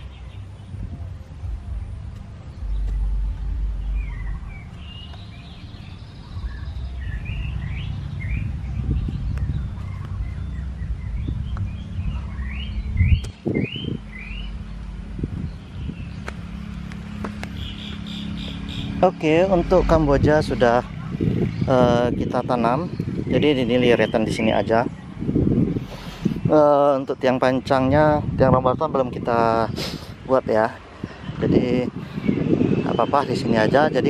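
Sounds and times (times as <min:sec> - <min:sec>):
low steady rumble: 0:00.0 - 0:29.6
small birds chirping: 0:00.0 - 0:34.0.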